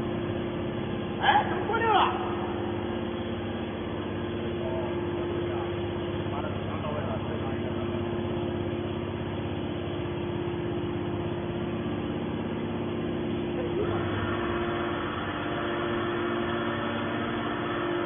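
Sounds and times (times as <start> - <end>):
baler mechanical hum: 0.0 - 18.0.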